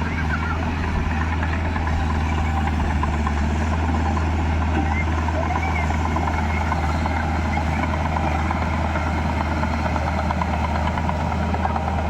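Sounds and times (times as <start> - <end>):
heavy diesel machinery engine hum: 0.0 - 12.0.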